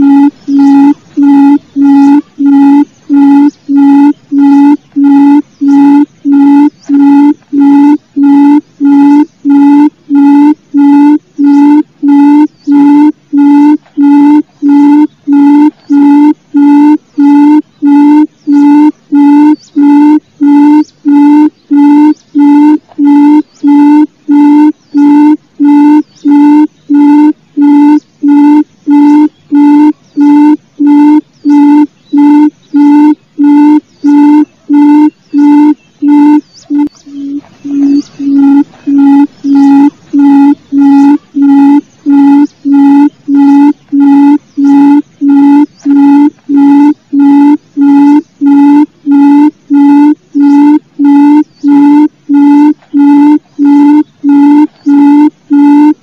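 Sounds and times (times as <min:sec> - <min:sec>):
bird low hooting calls: 0:00.0 - 0:56.0.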